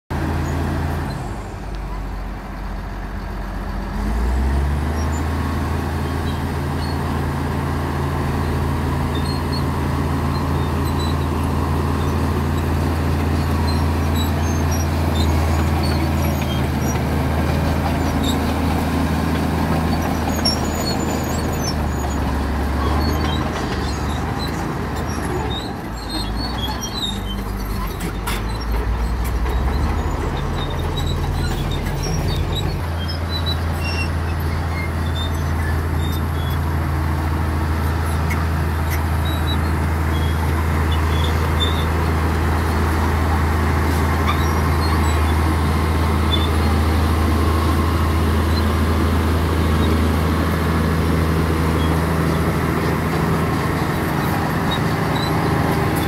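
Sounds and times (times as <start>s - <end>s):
bulldozer diesel engine under load: 0.1s - 56.0s.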